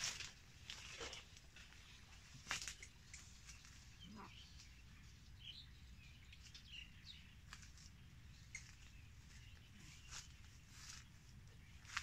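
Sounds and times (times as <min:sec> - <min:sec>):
low steady background noise: 0:00.0 - 0:12.0
faint bird chirps: 0:01.7 - 0:12.0.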